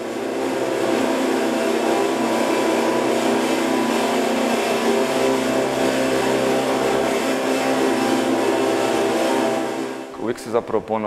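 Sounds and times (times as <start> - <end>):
electric guitar noise drone: 0.0 - 10.9.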